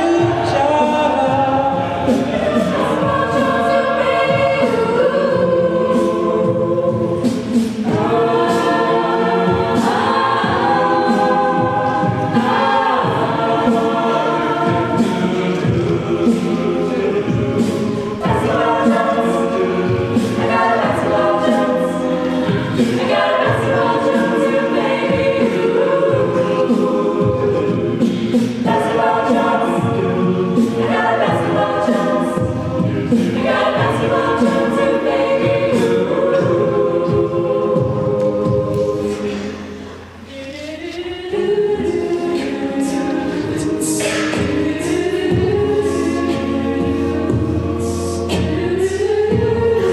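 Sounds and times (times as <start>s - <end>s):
a cappella group singing harmony: 0.0s - 49.9s
vocal percussion beat: 0.0s - 49.9s.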